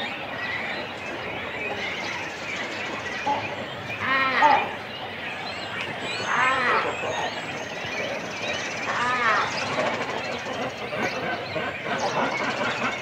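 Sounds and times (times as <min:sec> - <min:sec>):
chatter of birds: 0:00.0 - 0:13.0
cormorant chicks and adults calling: 0:00.0 - 0:13.0.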